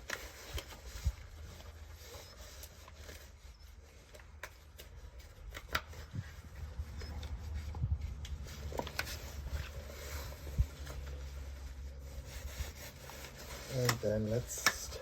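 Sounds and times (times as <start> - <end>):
hands rustling and rubbing: 0.0 - 15.0.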